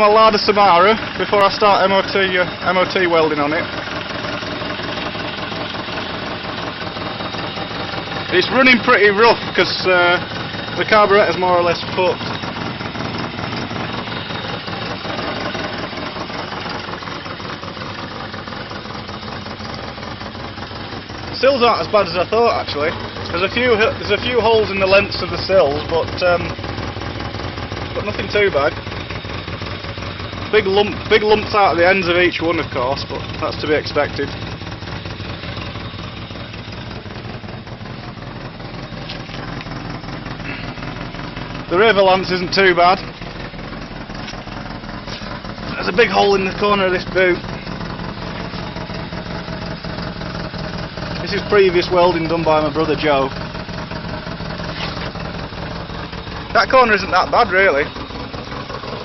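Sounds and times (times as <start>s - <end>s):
car engine idling unevenly: 0.0s - 59.0s.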